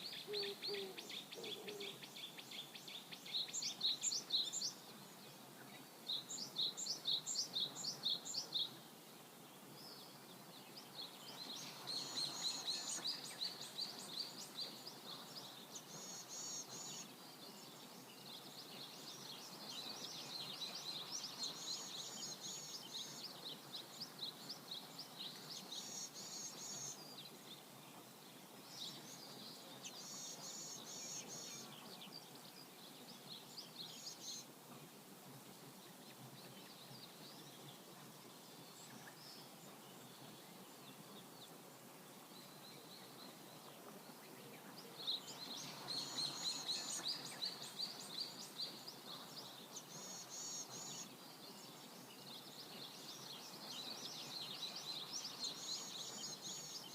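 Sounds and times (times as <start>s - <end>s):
flowing river water: 0.0s - 56.9s
songbirds chirping: 0.0s - 56.9s.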